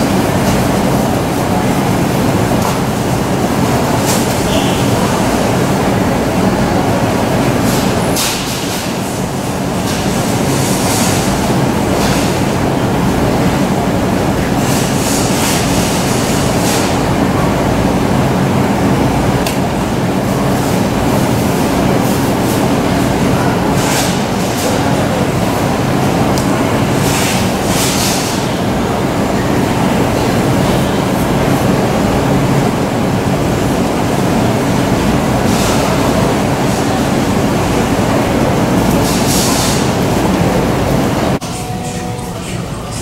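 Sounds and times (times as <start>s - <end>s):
machinery hum and hiss: 0.0s - 43.0s.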